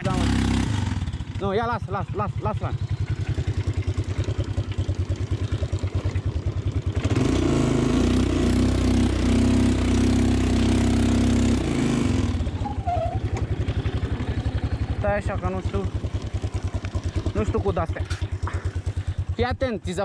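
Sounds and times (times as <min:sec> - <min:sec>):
atv engine revving and idling: 0:00.0 - 0:20.0.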